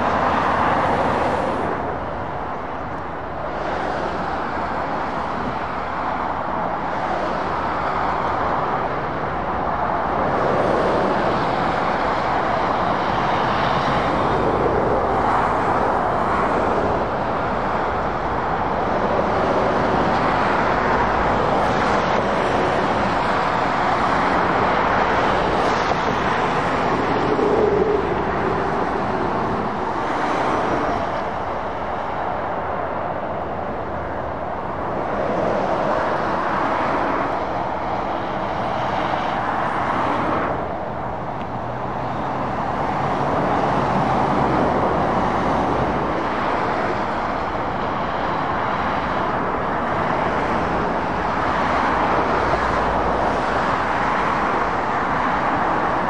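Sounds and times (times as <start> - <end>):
lorries and cars passing: 0.0 - 56.0.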